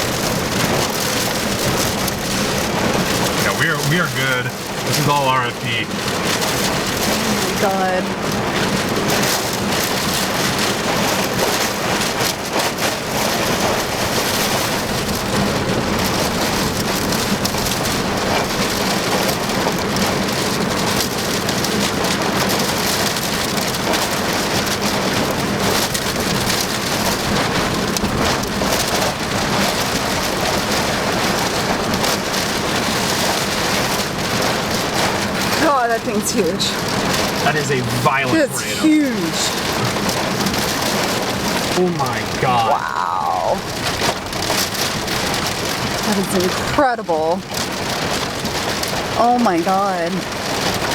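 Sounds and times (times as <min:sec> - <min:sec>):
heavy rain hitting a vehicle: 0:00.0 - 0:50.9.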